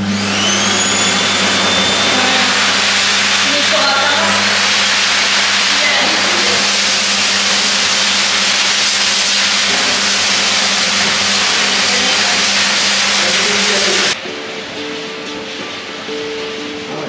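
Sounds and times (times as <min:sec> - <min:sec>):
dog dryer blowing air: 0:00.0 - 0:14.2
motor hum: 0:00.0 - 0:14.2.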